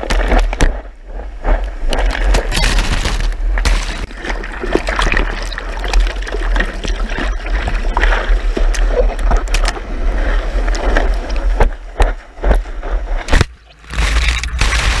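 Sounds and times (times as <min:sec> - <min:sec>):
surf rushing and splashing: 0:01.4 - 0:15.0.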